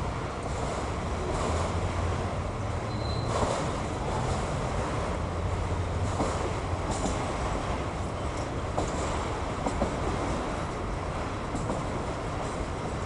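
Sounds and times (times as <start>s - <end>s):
freight cars rumbling on track: 0.0s - 13.0s.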